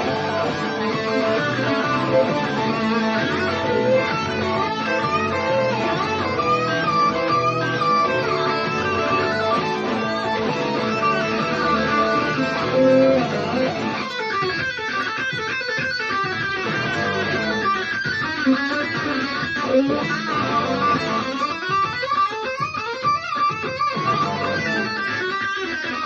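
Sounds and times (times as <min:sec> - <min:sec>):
blues backing track: 0:00.0 - 0:26.0
blues guitar lead: 0:00.0 - 0:26.0.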